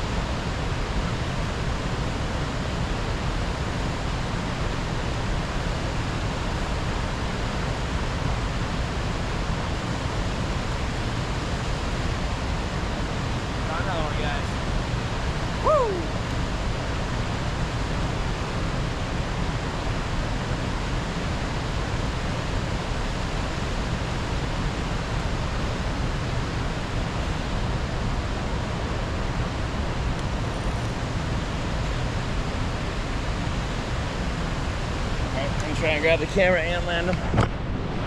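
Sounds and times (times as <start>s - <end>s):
river flowing past rocks: 0.0s - 38.0s.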